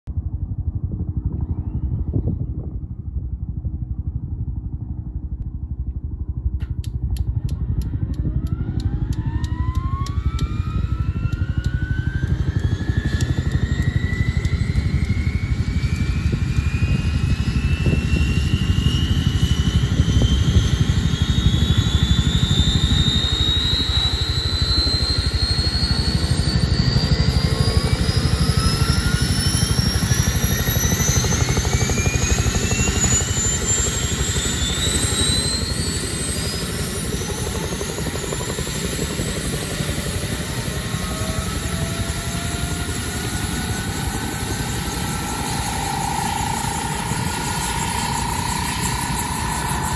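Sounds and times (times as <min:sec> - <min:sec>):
helicopter turbine spooling up: 0:00.1 - 0:49.9.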